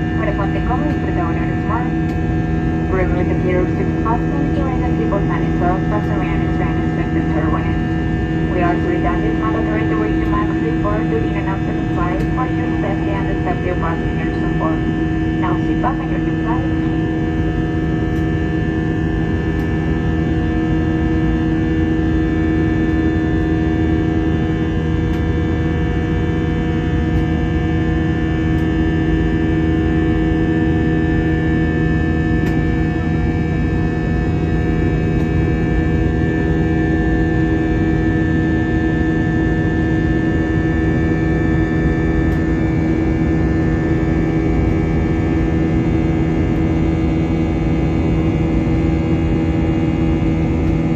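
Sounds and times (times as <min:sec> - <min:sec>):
airplane cabin engine drone: 0:00.0 - 0:50.9.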